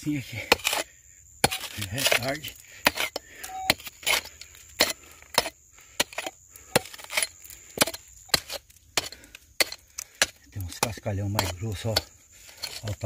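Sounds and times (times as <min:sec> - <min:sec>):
gravel rattling: 0:00.0 - 0:13.0
mattock striking rock: 0:01.4 - 0:13.0.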